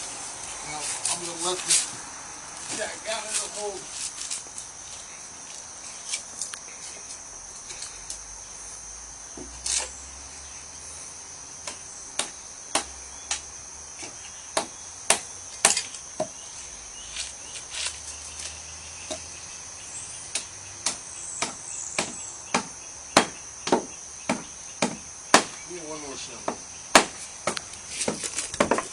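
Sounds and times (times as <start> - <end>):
high insect trill: 0.0 - 28.9.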